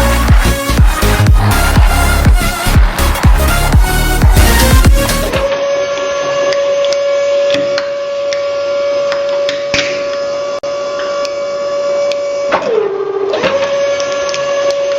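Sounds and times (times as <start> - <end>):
hydraulic pump whining: 0.0 - 14.9.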